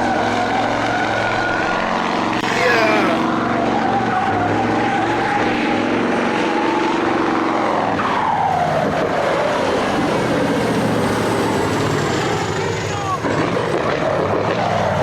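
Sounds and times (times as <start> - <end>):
high-revving engine: 0.0 - 15.0.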